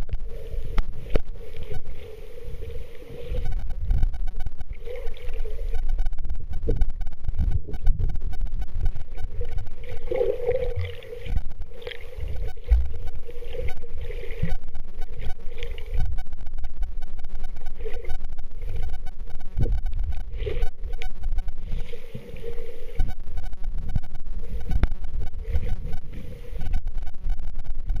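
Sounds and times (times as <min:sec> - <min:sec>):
muffled underwater rumble: 0:00.0 - 0:28.0.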